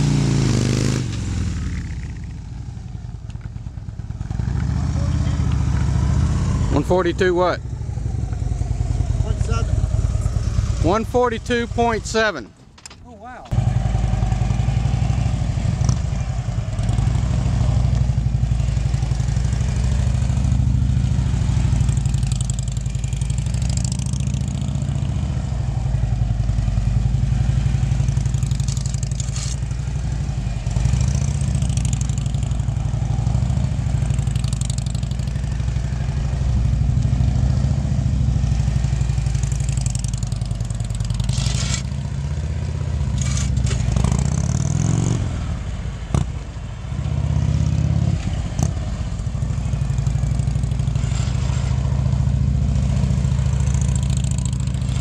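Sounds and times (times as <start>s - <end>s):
motorcycle engine revving: 0.0s - 12.4s, 13.5s - 55.0s.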